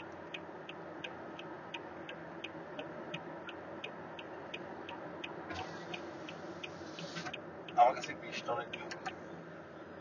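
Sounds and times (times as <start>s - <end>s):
light regular ticking: 0.0s - 9.2s
road and engine noise in car: 0.0s - 10.0s.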